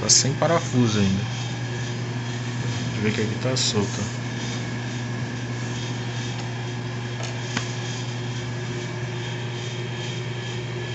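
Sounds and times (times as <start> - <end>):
low mechanical hum: 0.0 - 10.9.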